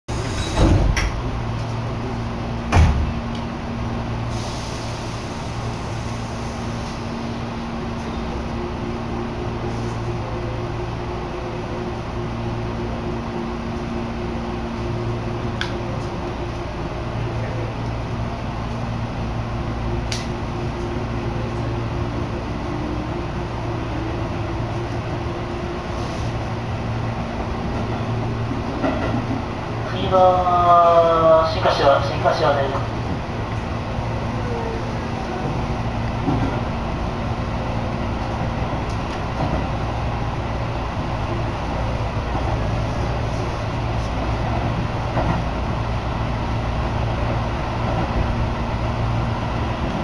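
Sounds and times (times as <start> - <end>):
electric train humming: 0.1 - 50.0.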